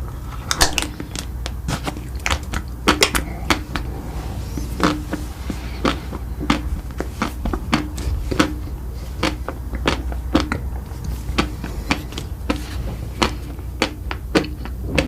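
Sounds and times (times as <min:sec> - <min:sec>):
low steady hum: 0:00.0 - 0:15.0
person chewing with clicks: 0:00.2 - 0:15.0.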